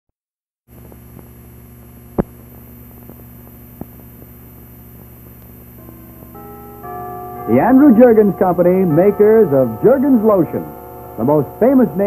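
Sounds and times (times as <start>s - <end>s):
film soundtrack hum and hiss: 0.7s - 12.0s.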